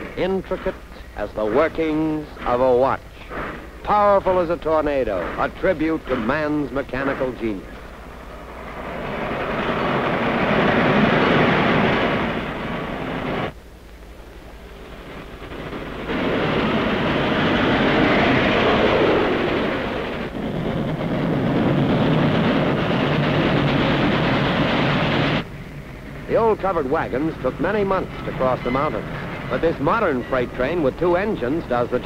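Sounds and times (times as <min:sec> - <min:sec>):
steam locomotives running hard: 0:00.0 - 0:13.6, 0:14.6 - 0:32.0.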